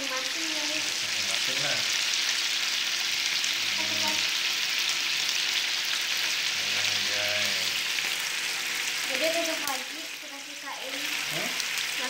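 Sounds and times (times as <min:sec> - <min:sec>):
meat sizzling on a grill pan: 0:00.0 - 0:12.0.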